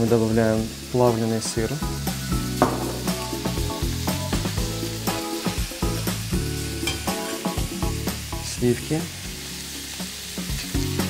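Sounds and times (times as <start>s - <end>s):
melodic background music: 0.0s - 11.0s
vegetables sizzling in a pan: 0.0s - 11.0s.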